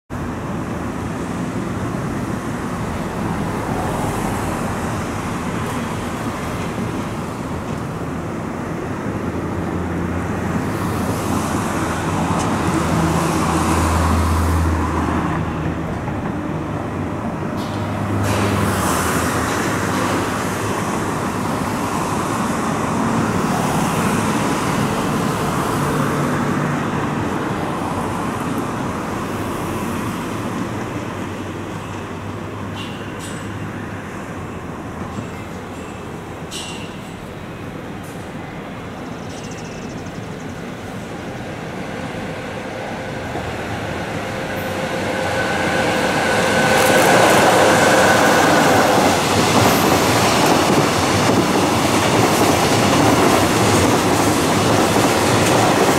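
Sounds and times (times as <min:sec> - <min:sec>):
road traffic engine and tyre noise: 0:00.1 - 0:55.9.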